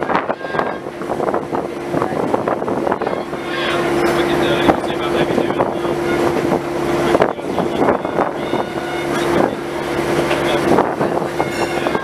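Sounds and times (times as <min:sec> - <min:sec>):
diesel locomotive running: 0:00.0 - 0:12.0
wind on microphone: 0:00.0 - 0:12.0.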